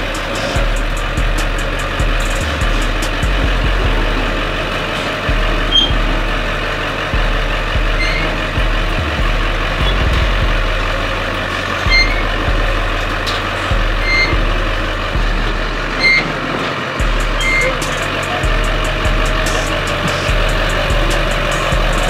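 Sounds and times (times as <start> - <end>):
monster truck engine running: 0.0 - 22.0
music with heavy bass line: 0.0 - 22.0.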